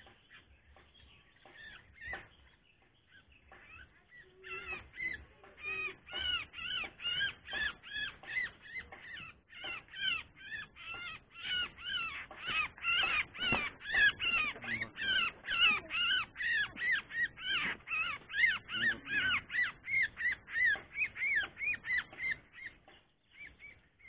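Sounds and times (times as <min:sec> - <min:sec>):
bird calling harshly: 0:00.0 - 0:24.0.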